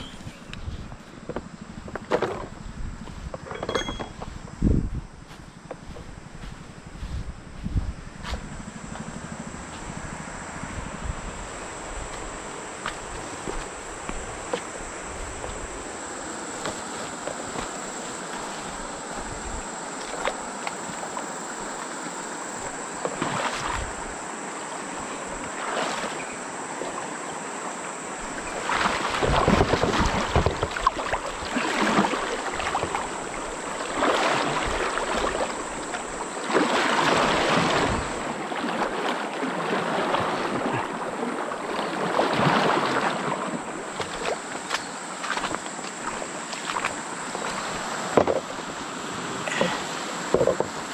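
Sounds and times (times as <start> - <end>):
high insect buzz: 0.0 - 38.8, 40.2 - 50.9
water sloshing and splashing: 8.2 - 50.9.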